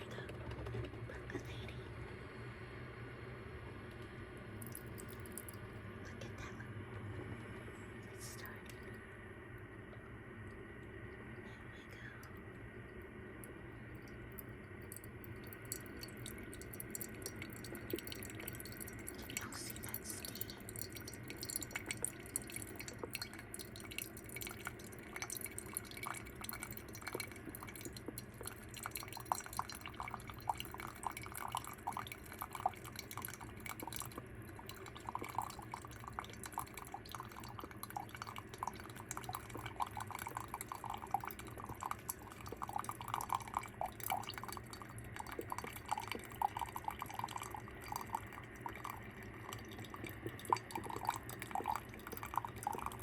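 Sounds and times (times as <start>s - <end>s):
low steady hum: 0.0s - 53.0s
coffee maker sputtering and dripping: 3.1s - 6.0s, 9.9s - 53.0s.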